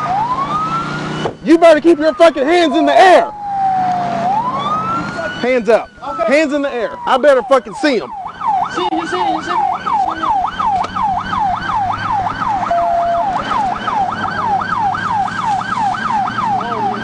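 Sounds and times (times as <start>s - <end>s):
police siren yelping: 0.0s - 17.0s.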